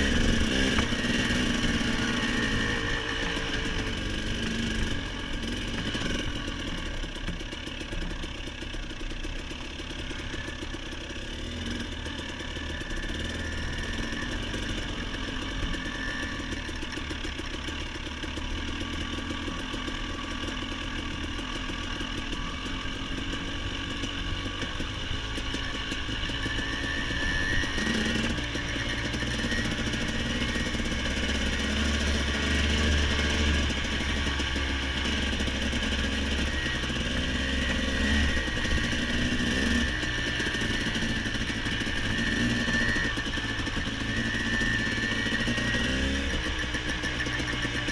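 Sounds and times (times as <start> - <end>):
dirt bike engine running: 0.0 - 47.9.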